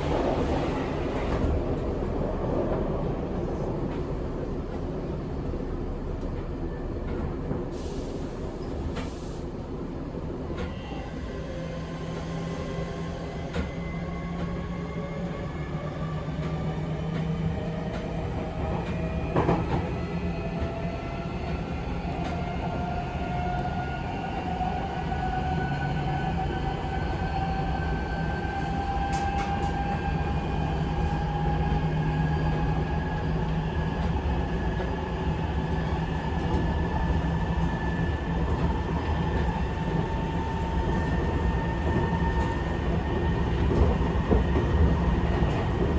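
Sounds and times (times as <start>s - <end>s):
wheels rumbling on rail: 0.0s - 45.9s.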